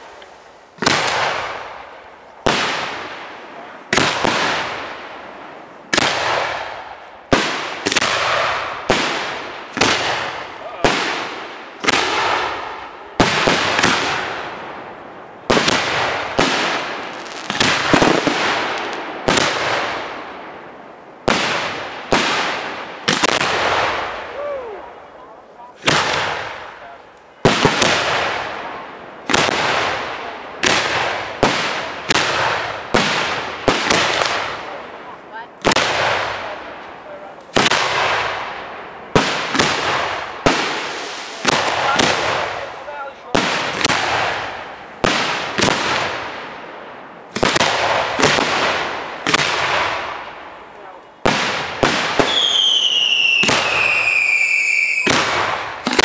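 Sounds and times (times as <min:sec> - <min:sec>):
fireworks bursting with echo: 0:00.0 - 0:56.0.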